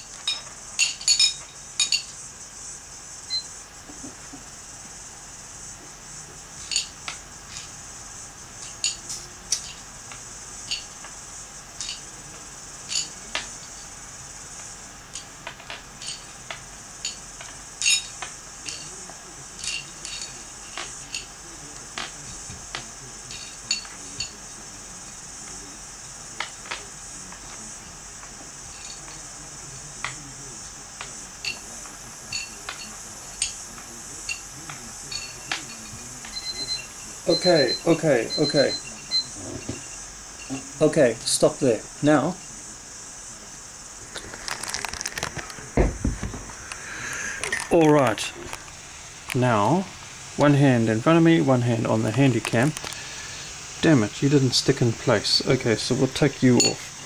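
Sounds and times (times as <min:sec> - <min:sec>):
steady high hiss: 0:00.0 - 0:57.0.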